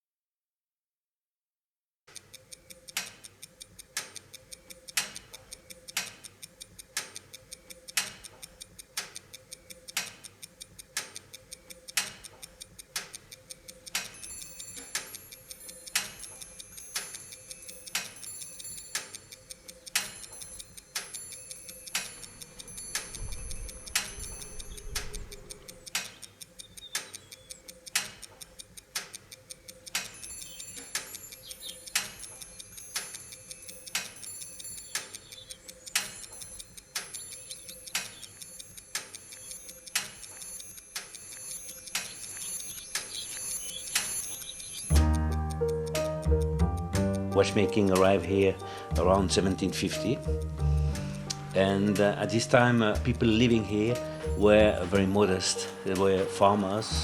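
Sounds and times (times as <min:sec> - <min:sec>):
clock ticking: 0:02.1 - 0:57.0.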